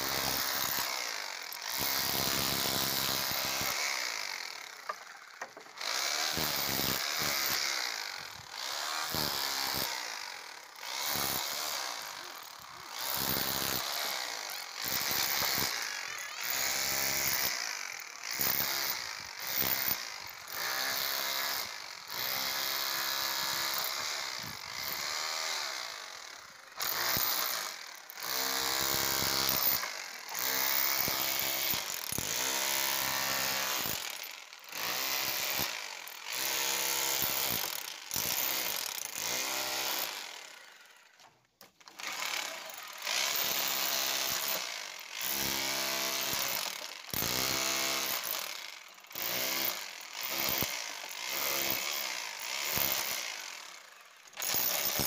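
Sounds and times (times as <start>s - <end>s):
rotary hammer chiseling brick: 0.0s - 8.2s, 12.9s - 25.1s, 26.8s - 40.2s, 41.6s - 53.4s, 54.4s - 55.0s.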